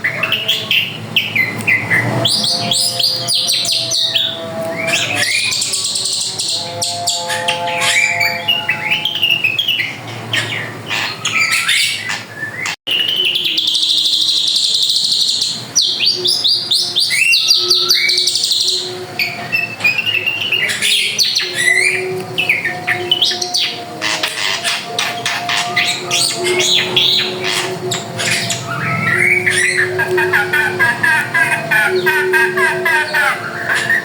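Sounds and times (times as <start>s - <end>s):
bird singing whistles and chatter: 0.0s - 34.0s.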